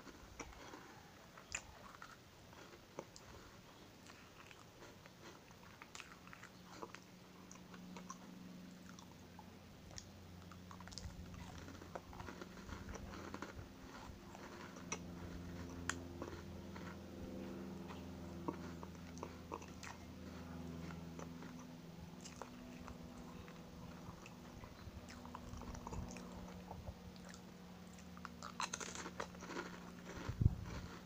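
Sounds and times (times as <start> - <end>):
chewing crunchy biscuit: 0.0 - 31.0
faint low hum: 0.0 - 31.0.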